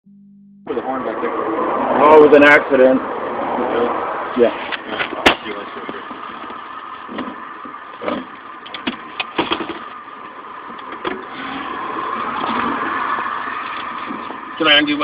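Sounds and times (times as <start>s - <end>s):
vehicle running from inside cab: 0.1s - 15.0s.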